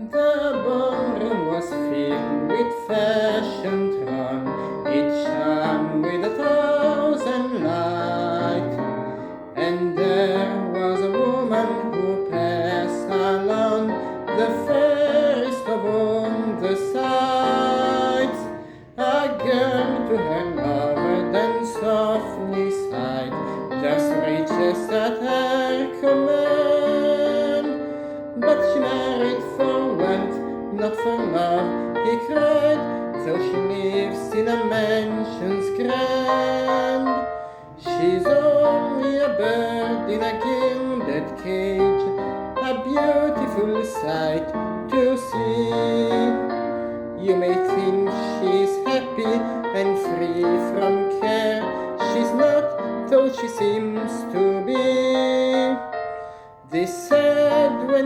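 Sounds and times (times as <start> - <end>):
person singing a ballad: 0.0 - 58.0
piano accompaniment: 0.0 - 58.0.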